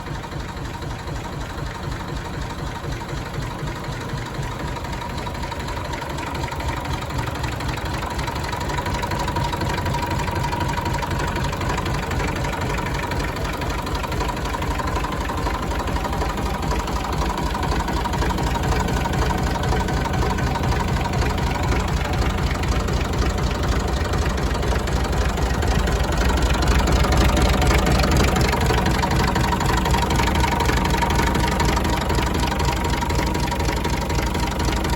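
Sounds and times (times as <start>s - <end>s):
tractor engine idling with knocking: 0.0s - 34.9s.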